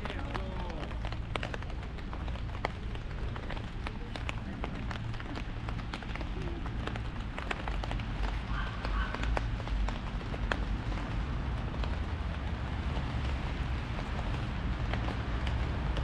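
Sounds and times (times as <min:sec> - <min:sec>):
raindrops ticking on umbrella: 0:00.0 - 0:16.0.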